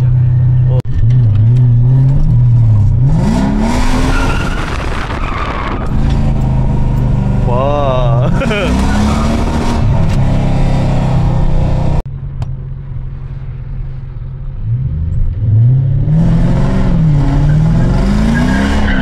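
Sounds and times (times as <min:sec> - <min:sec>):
car engine revving: 0:00.0 - 0:12.0, 0:14.5 - 0:19.0.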